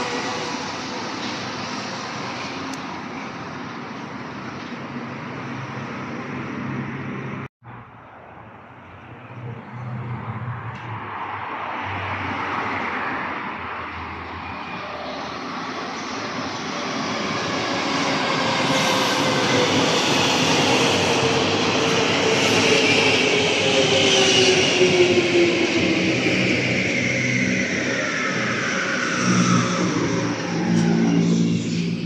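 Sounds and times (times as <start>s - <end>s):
metro train rumble and hiss: 0.0s - 7.5s, 8.7s - 32.0s
train pulling into station: 0.0s - 7.5s, 8.2s - 32.0s.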